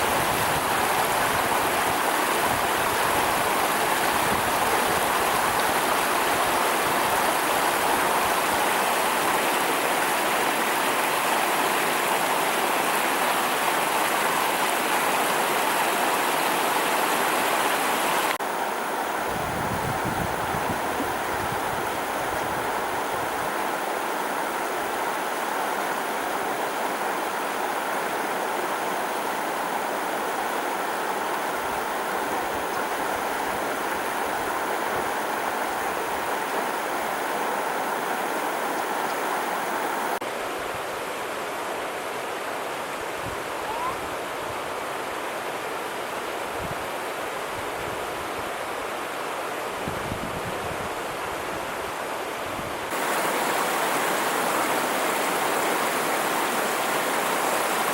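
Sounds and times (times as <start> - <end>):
running water rushing: 0.0 - 57.9.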